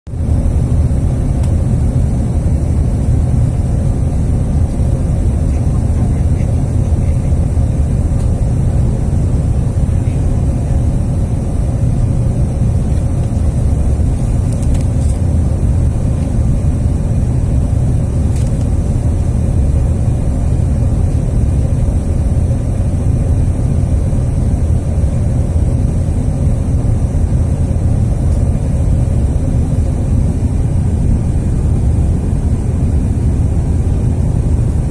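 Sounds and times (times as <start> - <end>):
jet airliner low rumble: 0.0 - 34.9
faint steady hum: 0.1 - 34.9.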